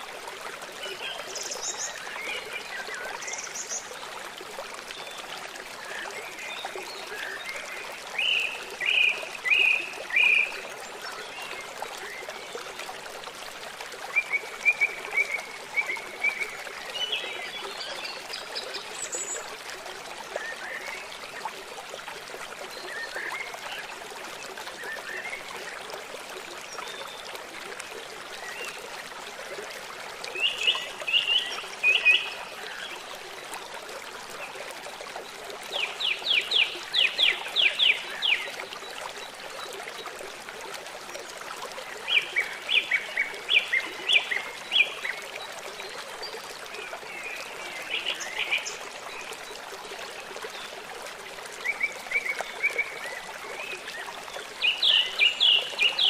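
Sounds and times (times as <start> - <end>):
flowing river water: 0.0 - 56.0.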